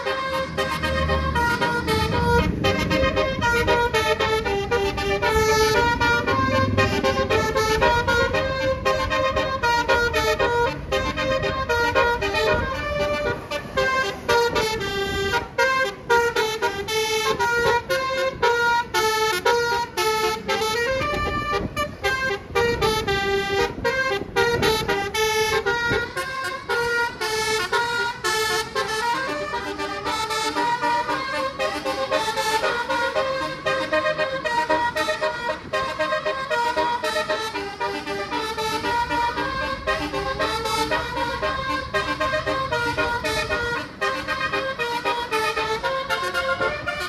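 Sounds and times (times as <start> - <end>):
low engine and road rumble: 0.0 - 47.0
multi-tone bus air horn tune: 0.0 - 47.0.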